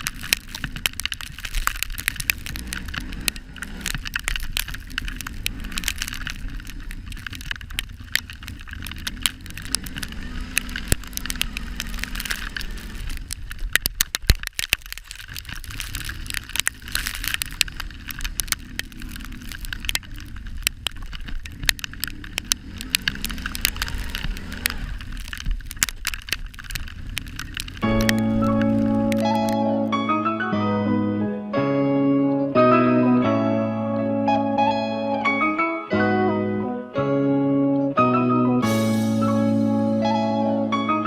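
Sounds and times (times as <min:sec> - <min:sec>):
engine rumbling: 0:00.0 - 0:13.8, 0:15.2 - 0:41.0
crackling and clicking: 0:00.0 - 0:30.5, 0:34.2 - 0:36.2, 0:37.7 - 0:41.0.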